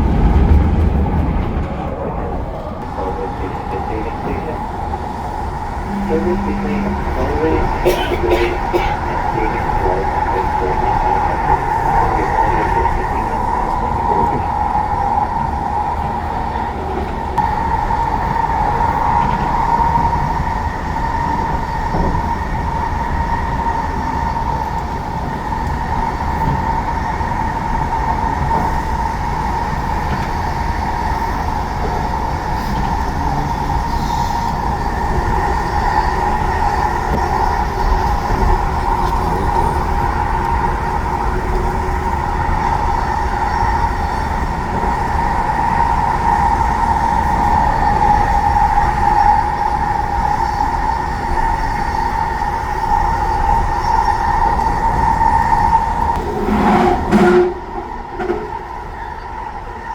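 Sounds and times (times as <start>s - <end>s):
train hum: 0.0s - 59.9s
train low rumble: 0.0s - 59.9s.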